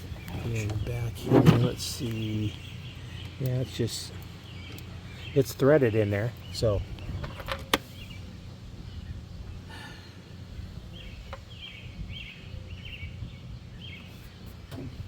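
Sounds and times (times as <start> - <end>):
bird chirping: 0.0 - 10.0, 10.7 - 15.0.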